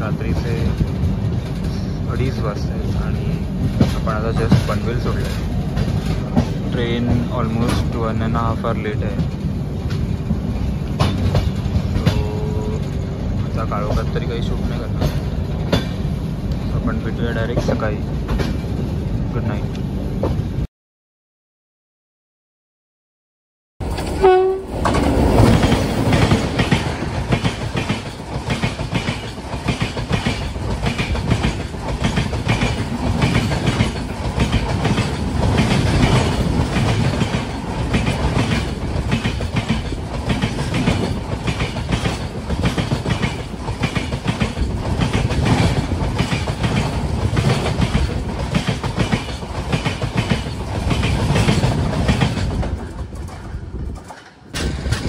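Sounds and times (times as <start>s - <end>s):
train wheels clattering over rails: 0.0s - 18.8s, 23.8s - 55.0s.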